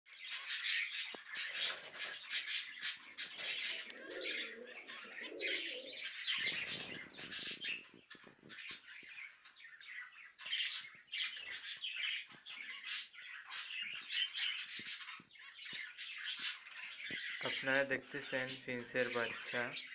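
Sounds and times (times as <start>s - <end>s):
finches chirping: 0.1s - 19.9s.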